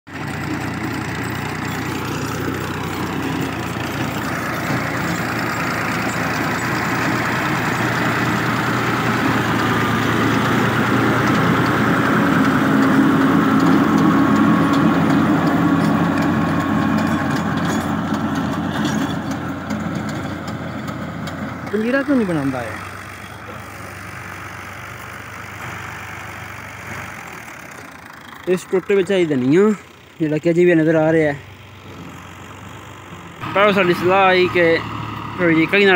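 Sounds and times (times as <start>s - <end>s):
tractor diesel engine running: 0.1s - 35.9s.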